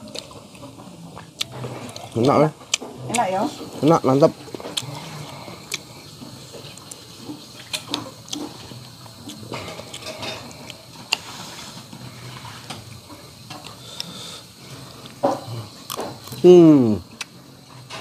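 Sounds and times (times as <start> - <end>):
soft eating sounds: 0.0 - 18.0.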